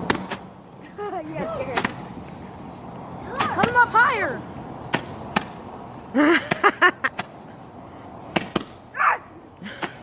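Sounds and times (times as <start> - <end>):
small fireworks cracking: 0.0 - 8.8.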